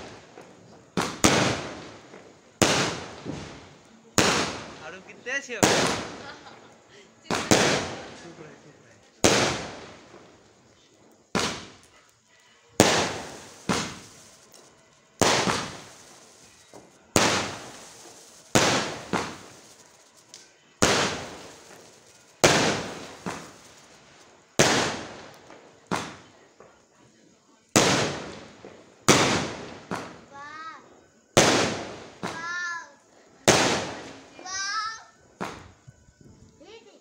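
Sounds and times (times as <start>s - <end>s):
firework shells bursting: 0.0s - 26.6s, 27.7s - 32.8s, 33.4s - 36.4s.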